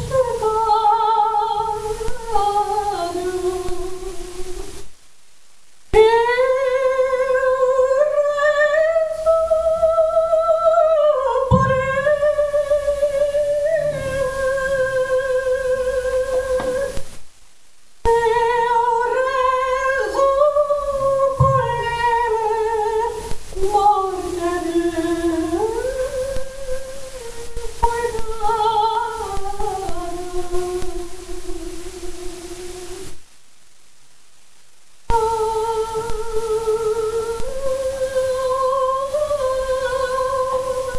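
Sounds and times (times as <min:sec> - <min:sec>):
woman singing with vibrato: 0:00.0 - 0:04.8, 0:05.9 - 0:17.0, 0:18.0 - 0:33.1, 0:35.1 - 0:40.9.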